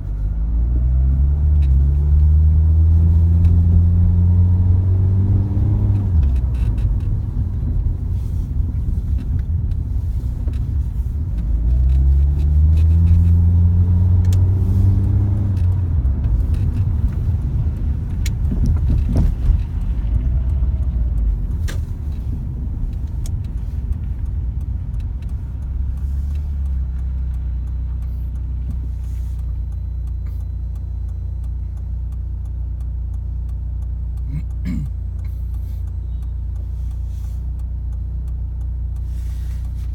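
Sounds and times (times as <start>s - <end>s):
car engine accelerating: 0.0s - 39.9s
low road rumble: 0.0s - 39.9s.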